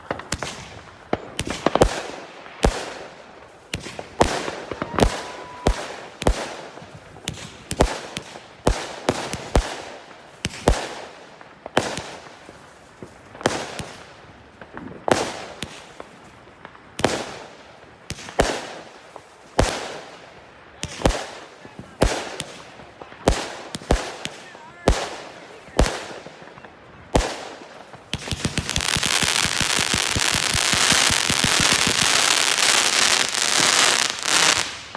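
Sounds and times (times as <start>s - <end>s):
firework bangs with crackling: 0.0s - 34.9s.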